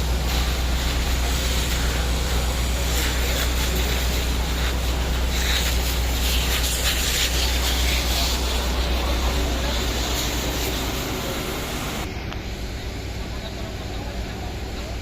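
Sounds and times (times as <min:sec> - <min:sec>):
hissing rush: 0:00.0 - 0:15.0
low engine rumble: 0:00.0 - 0:15.0.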